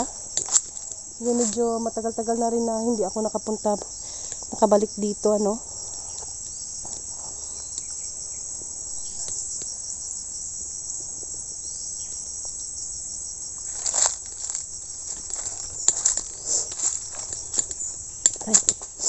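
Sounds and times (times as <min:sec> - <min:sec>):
rustle: 0:00.0 - 0:01.9, 0:05.5 - 0:19.0
crickets chirping: 0:00.0 - 0:19.0.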